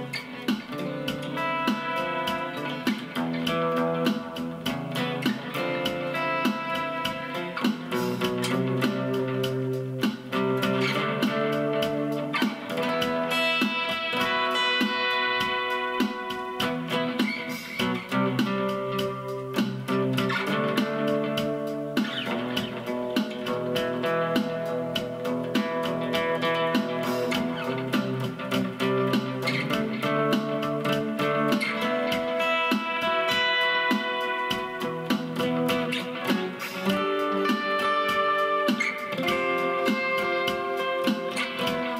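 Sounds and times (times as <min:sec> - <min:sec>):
acoustic guitar notes and chords: 0:00.0 - 0:41.9.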